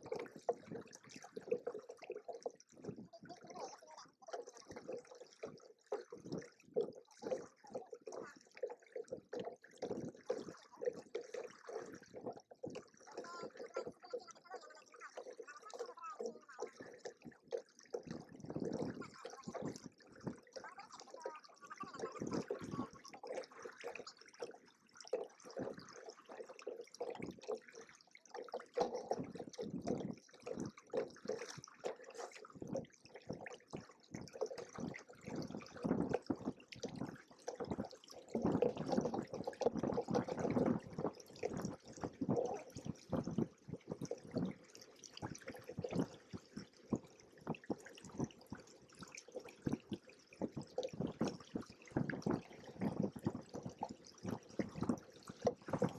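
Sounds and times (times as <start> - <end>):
water slapping against boat hulls: 0.0 - 55.9.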